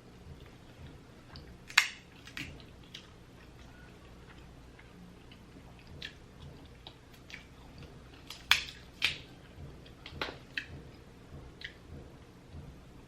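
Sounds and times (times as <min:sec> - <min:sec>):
chewing with crackles: 0:00.1 - 0:12.0.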